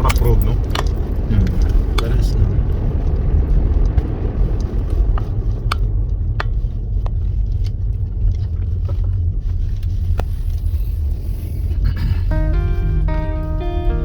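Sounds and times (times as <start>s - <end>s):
tyres rumbling on rough road: 0.0s - 14.0s.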